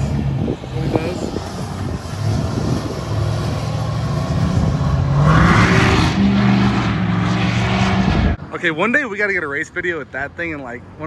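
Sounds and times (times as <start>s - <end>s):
diesel pickup accelerating: 0.0s - 11.0s.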